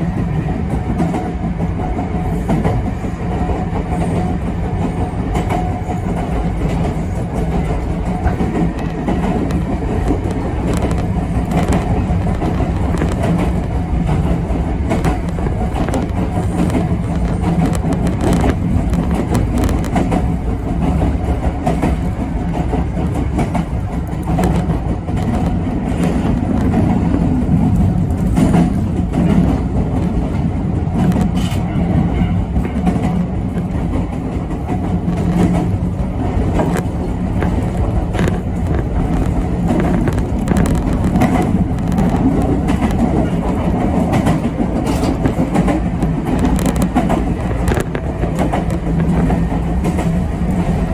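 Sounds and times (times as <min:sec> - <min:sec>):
train wheels rumbling on rail: 0:00.0 - 0:50.9
clicks over rail joints: 0:01.9 - 0:50.9.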